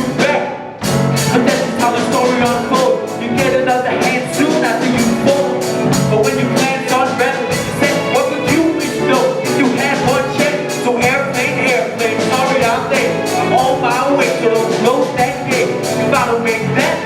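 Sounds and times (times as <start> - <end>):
drum kit beat: 0.0 - 17.0
live band playing: 0.0 - 17.0
person singing: 0.0 - 17.0.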